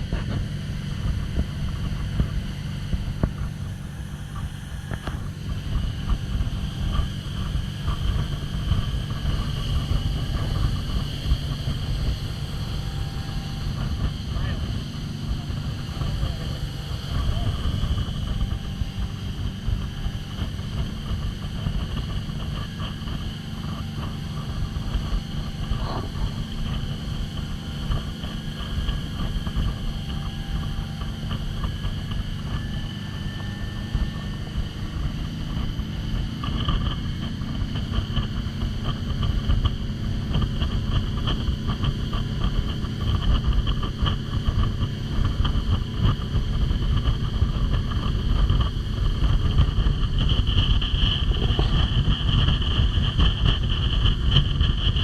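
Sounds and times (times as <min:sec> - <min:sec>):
motorboat engine rumble: 0:00.0 - 0:55.0.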